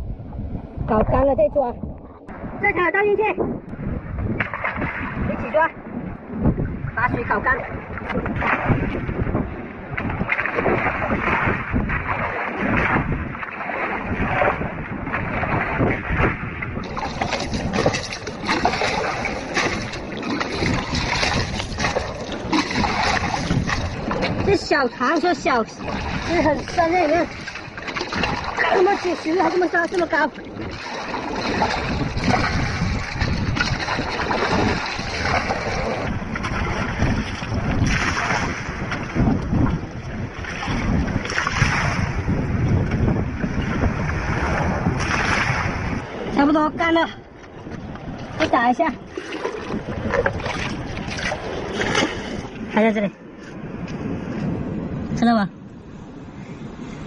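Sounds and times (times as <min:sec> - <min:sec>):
water splashing and sloshing: 0:00.0 - 0:57.0
wind buffeting microphone: 0:00.0 - 0:57.0.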